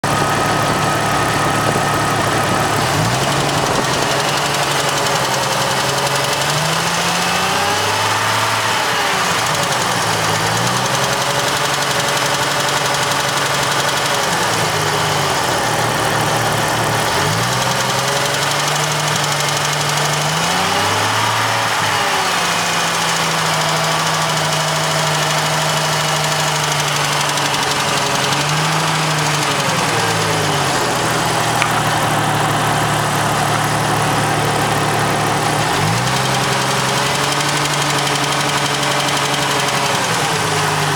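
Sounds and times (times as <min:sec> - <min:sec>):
engine revving: 0:00.0 - 0:40.9
engine ticking: 0:00.0 - 0:40.9.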